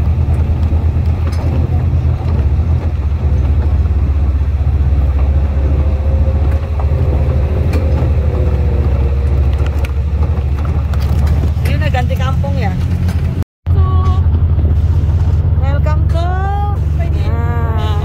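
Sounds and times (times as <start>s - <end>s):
jeep engine running: 0.0s - 18.0s.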